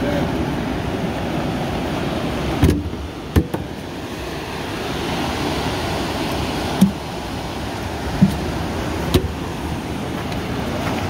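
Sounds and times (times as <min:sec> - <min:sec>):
sea rushing: 0:00.0 - 0:11.0
wind: 0:00.0 - 0:11.0.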